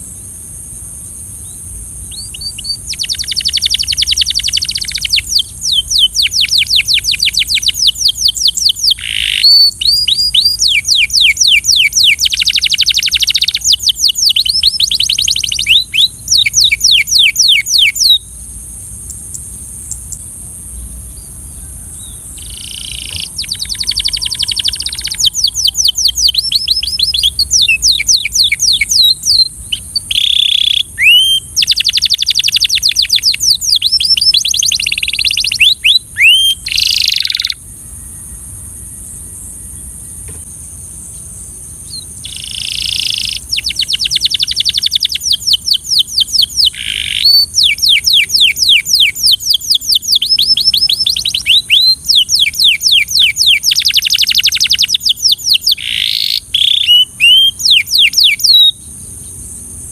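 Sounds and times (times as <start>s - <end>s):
high-pitched hiss: 0.0s - 59.9s
canary singing trills: 1.4s - 38.5s, 41.1s - 59.9s.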